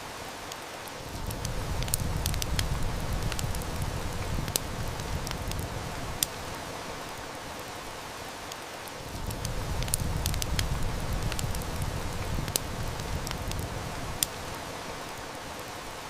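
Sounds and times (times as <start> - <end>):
heavy rain hiss: 0.0 - 16.0
wood fire crackling and popping: 0.5 - 7.3, 8.5 - 15.4.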